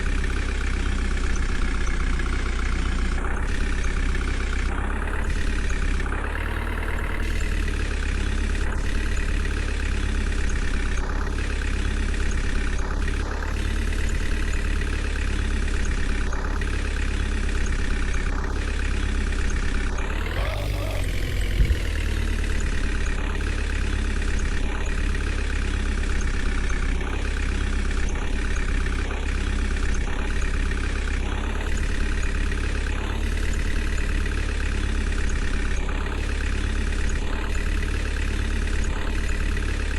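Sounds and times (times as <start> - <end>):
diesel engine running and revving: 0.0 - 39.9.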